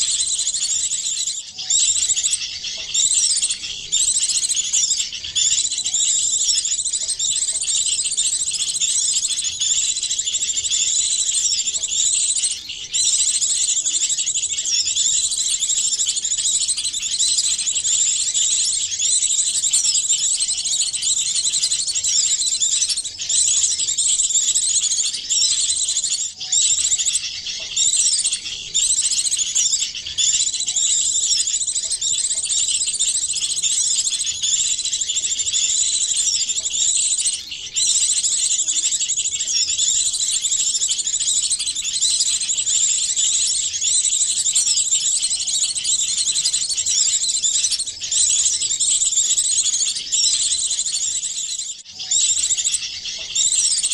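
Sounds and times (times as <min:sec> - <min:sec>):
small birds twittering and chirping: 0:00.0 - 0:53.9.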